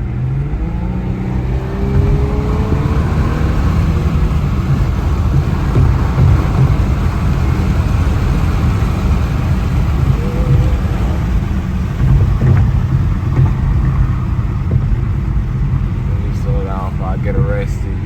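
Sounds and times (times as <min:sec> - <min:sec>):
car engine rumble from inside: 0:00.0 - 0:18.0
road noise: 0:00.0 - 0:18.0.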